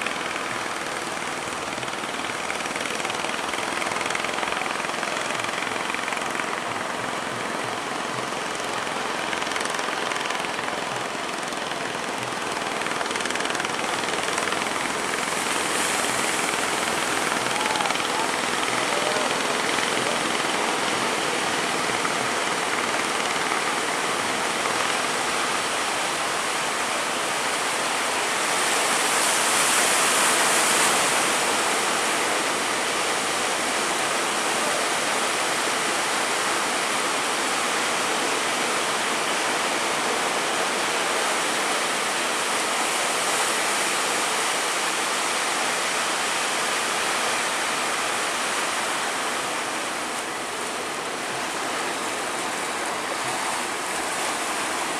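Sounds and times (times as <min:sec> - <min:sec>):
rough sea water rushing: 0:00.0 - 0:54.9.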